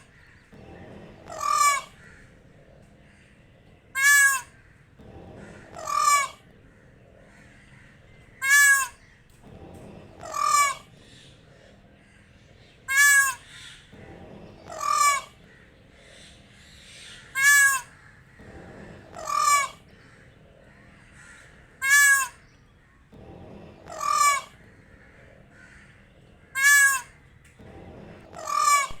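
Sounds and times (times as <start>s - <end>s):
peacock calling: 0.0s - 29.0s.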